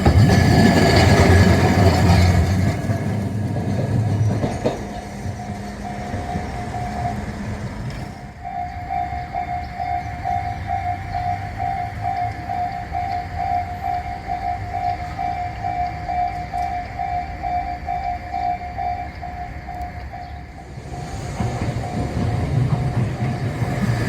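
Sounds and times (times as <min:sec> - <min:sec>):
crossing alarm bell clanging: 0:00.0 - 0:24.0
train rumbling over crossing: 0:00.0 - 0:24.0.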